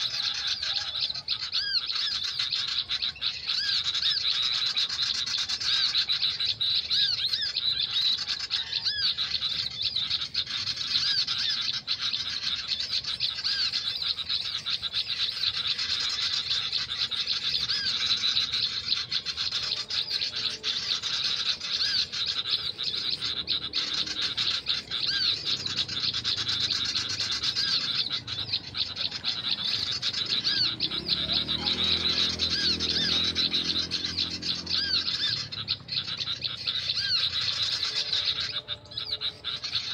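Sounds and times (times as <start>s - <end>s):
chorus of high bird chirps: 0.0s - 39.9s.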